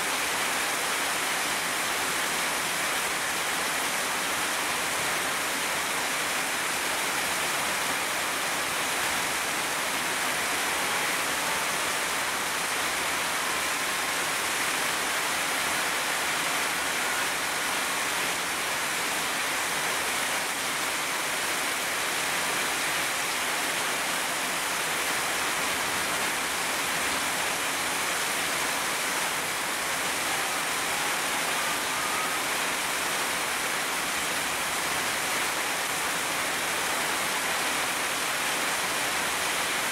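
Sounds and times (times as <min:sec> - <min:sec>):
heavy rain on plants: 0:00.0 - 0:39.9.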